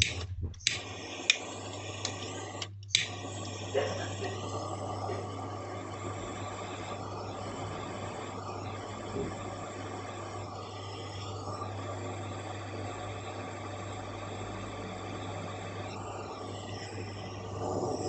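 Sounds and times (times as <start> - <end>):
gas torch hissing: 0.0 - 18.0
steady low hum: 0.0 - 18.0.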